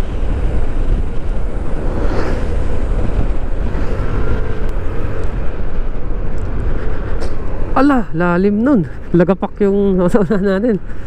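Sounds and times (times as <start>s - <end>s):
scooter engine drone: 0.0s - 9.1s
wind rushing over microphone: 0.0s - 11.0s.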